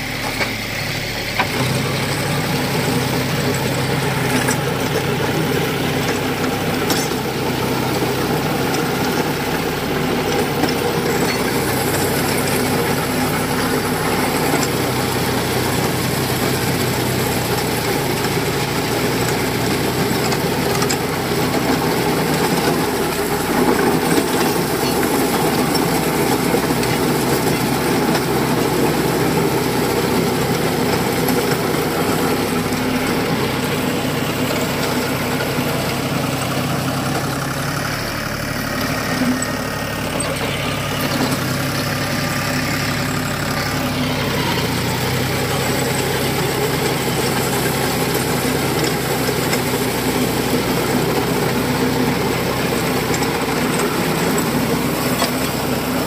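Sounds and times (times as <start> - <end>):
rotavator blades churning soil: 0.0 - 56.0
tractor diesel engine running: 0.0 - 56.0.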